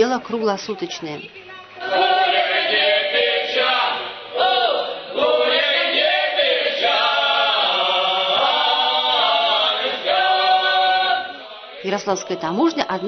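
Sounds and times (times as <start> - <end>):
mixed choir singing folk song: 1.8 - 13.0.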